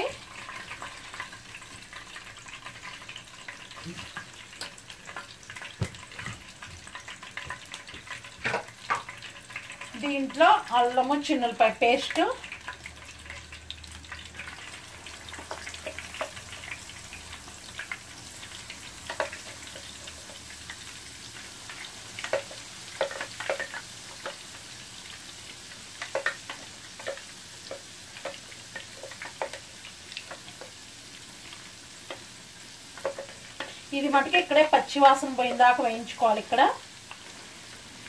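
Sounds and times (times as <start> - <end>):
hot oil sizzling and popping: 0.0 - 38.0.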